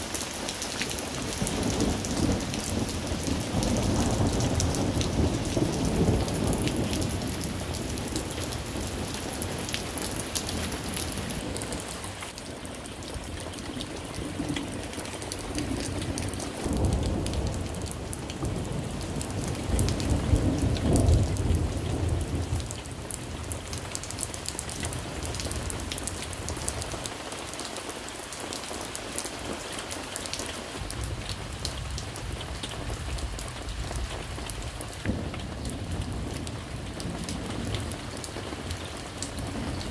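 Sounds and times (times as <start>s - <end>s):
rain pattering on surfaces: 0.0s - 39.9s
low thunder rumbling: 1.0s - 12.4s, 13.0s - 27.1s, 30.8s - 39.9s.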